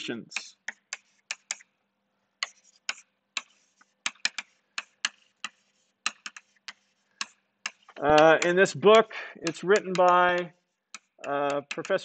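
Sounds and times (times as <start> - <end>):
chalk tapping and scratching: 0.0 - 1.8, 2.4 - 12.0.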